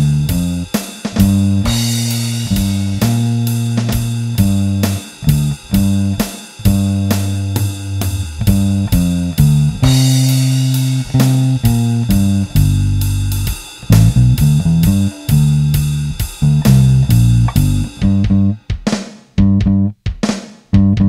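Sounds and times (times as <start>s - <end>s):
electric bass line: 0.0s - 18.6s, 19.4s - 20.0s, 20.8s - 21.0s
cymbal crash: 0.0s - 19.1s
drum beat: 0.0s - 21.0s.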